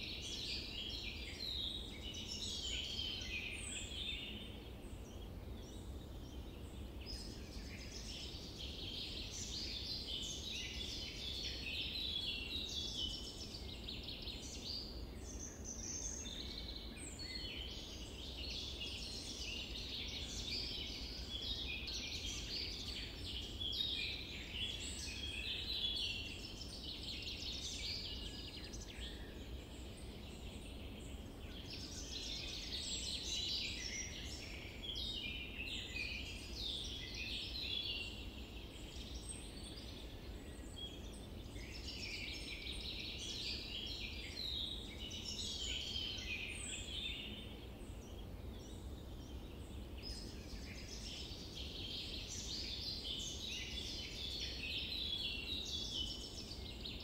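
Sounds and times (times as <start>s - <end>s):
birds calling and chattering: 0.0s - 57.0s.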